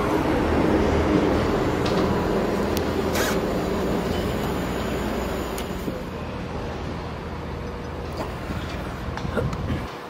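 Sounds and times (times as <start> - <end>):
train engine rumble: 0.0 - 10.0.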